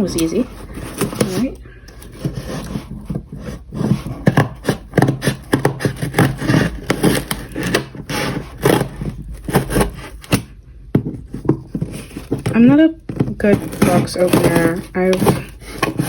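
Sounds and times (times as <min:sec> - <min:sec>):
cardboard and tape scraping: 0:00.0 - 0:16.0
steady low hum: 0:00.0 - 0:16.0.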